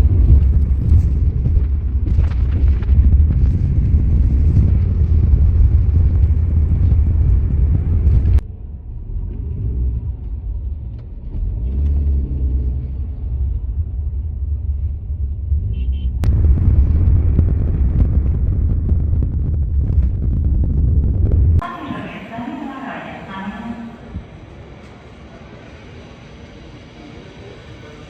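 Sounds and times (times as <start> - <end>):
low vehicle rumble: 0.0 - 28.0.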